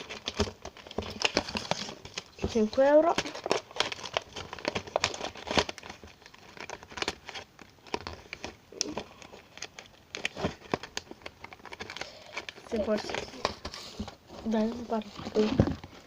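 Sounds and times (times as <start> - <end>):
plastic objects clicking and crinkling: 0.0 - 16.0.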